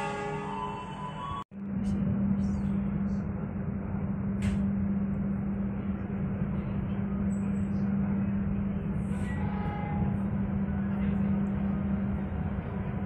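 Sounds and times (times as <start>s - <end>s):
constant low hum: 1.6s - 13.0s.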